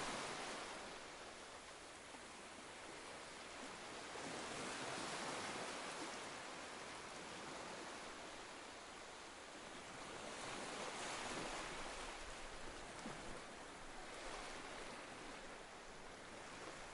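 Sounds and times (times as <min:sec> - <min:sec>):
gentle surf: 0:00.0 - 0:16.9.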